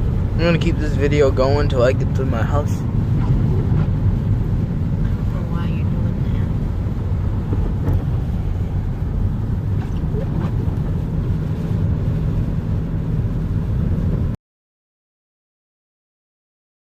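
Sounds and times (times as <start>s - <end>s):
car cabin road and engine rumble: 0.0s - 14.4s.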